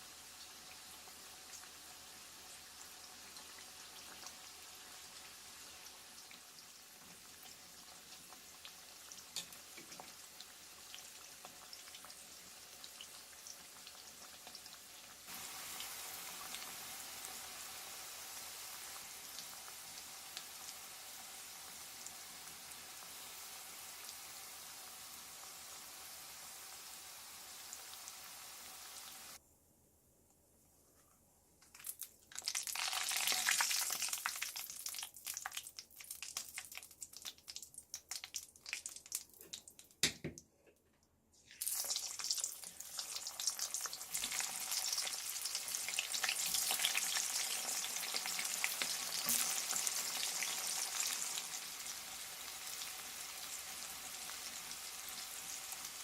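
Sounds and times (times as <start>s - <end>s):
food frying in hot oil: 0.0s - 29.4s, 31.7s - 40.0s, 41.5s - 56.0s.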